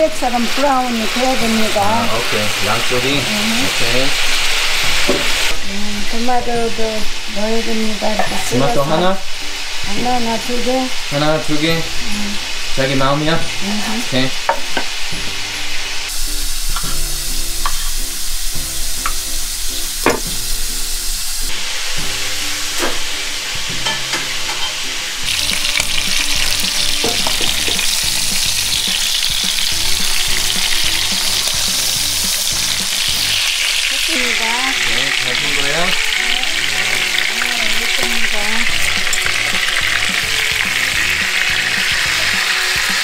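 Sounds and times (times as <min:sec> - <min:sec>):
meat sizzling in a pot: 0:00.0 - 0:43.0.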